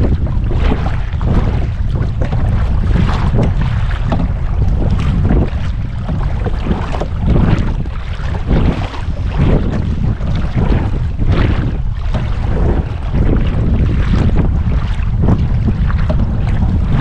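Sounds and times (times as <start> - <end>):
paddles splashing in water: 0.0 - 17.0
wind rumbling on microphone: 0.0 - 17.0.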